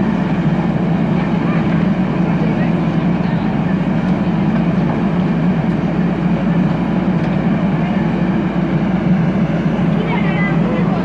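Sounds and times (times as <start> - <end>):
diesel engine heavy rumble: 0.0 - 11.0.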